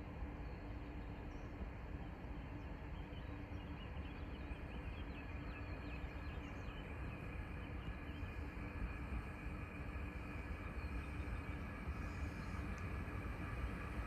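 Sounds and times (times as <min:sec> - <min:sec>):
low rumble with hum: 0:00.0 - 0:14.0.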